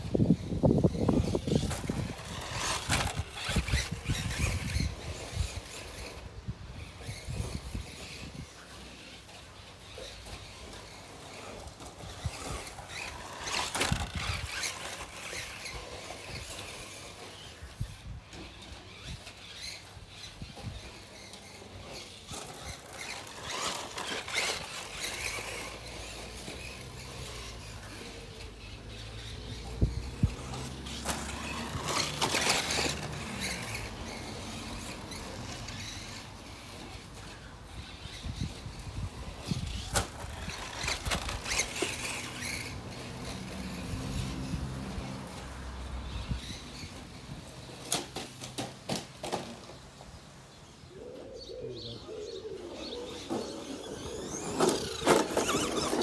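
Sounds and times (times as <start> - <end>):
rc car motor and gear whine: 0.0 - 56.0
tyres scrabbling on dirt: 0.0 - 56.0.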